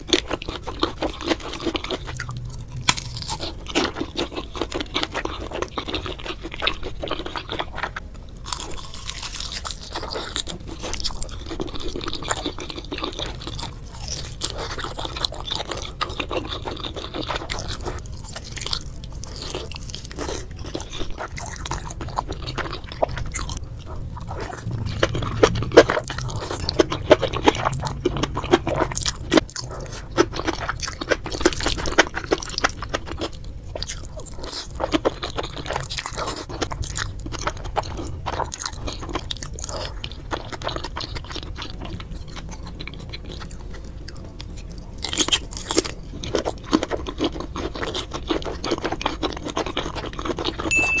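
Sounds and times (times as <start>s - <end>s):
chewing and crunchy bites: 0.0s - 51.0s.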